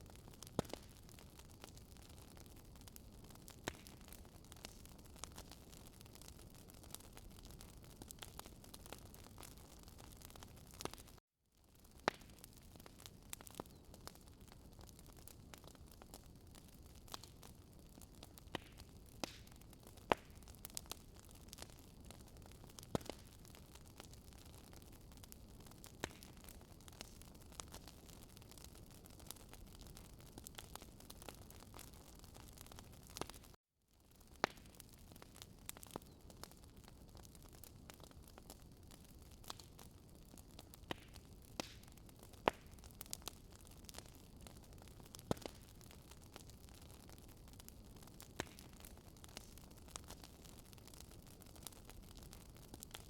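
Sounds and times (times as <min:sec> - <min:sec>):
fire pops: 0:00.0 - 0:11.2, 0:11.9 - 0:33.6, 0:34.3 - 0:53.0
wood fire crackling: 0:00.0 - 0:53.0.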